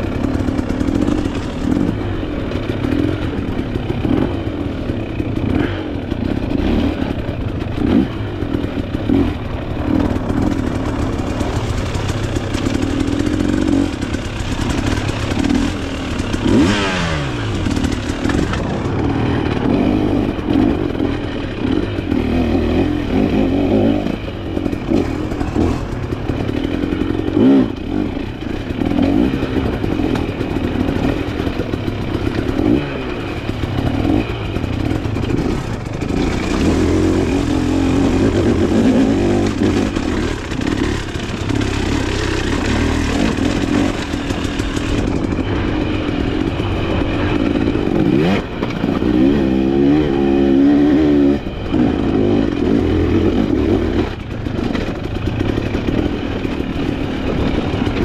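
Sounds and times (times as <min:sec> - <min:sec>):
bike rattling and knocking: 0:00.0 - 0:58.0
dirt bike engine revving: 0:00.0 - 0:58.0.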